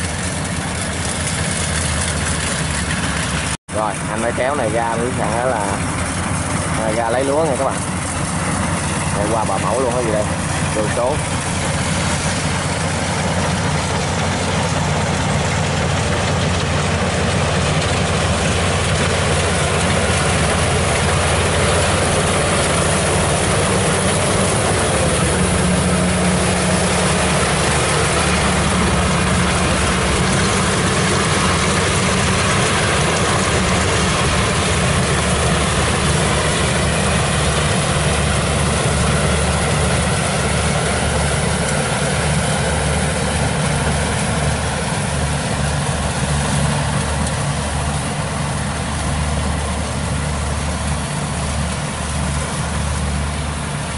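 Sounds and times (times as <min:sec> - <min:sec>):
combine harvester cutting: 0:00.0 - 0:53.9
diesel engine running: 0:00.0 - 0:53.9.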